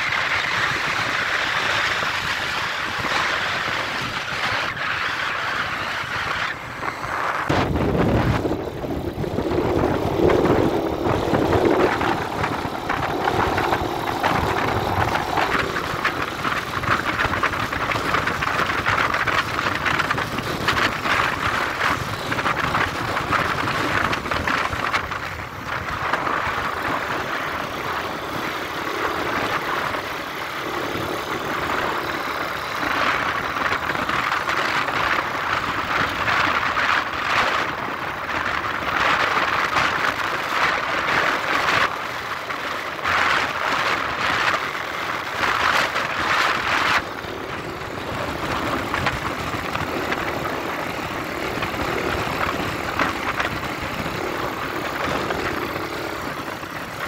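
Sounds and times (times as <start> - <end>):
motorcycle engine running: 0.0 - 57.0
wind noise: 0.0 - 57.0.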